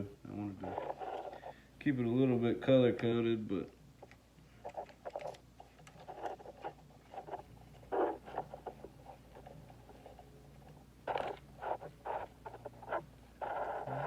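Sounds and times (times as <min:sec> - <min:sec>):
low steady hum: 0:00.0 - 0:14.0
rustling of wires being handled: 0:02.6 - 0:14.0.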